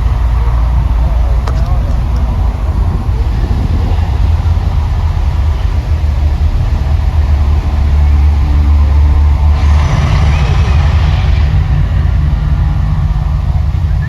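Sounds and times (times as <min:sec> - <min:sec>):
loud deep rumble: 0:00.0 - 0:14.0.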